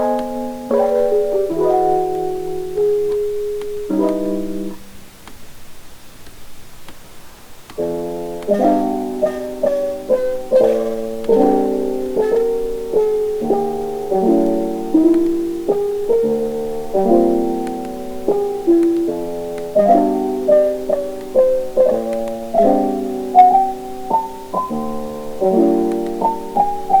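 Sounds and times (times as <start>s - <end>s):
piano chords with melody: 0.0s - 5.3s, 7.7s - 27.0s.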